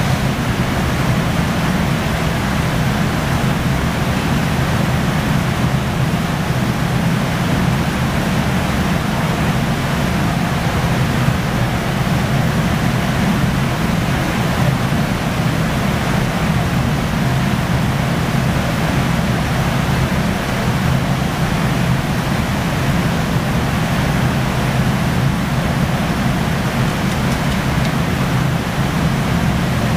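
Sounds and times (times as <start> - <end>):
furnace burners roaring: 0.0 - 29.9
large fans running: 0.0 - 29.9.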